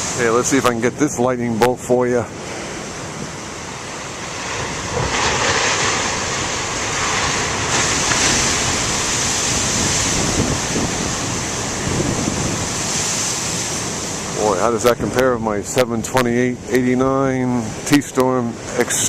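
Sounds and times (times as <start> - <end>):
wind buffeting microphone: 0.0 - 18.8
ocean waves breaking: 0.0 - 19.0.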